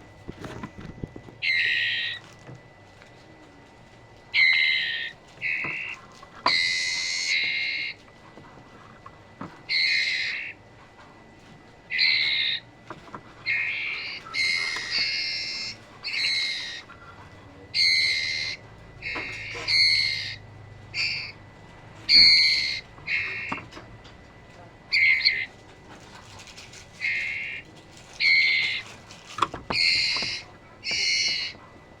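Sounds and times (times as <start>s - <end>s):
birds giving clear pitched calls: 1.4s - 2.6s, 4.2s - 32.0s.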